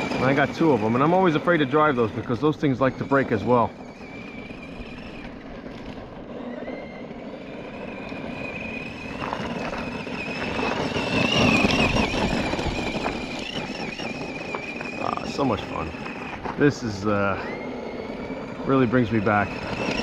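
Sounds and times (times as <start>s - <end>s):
electric motor whining: 0.0s - 20.0s
tyres crunching on gravel: 0.0s - 20.0s.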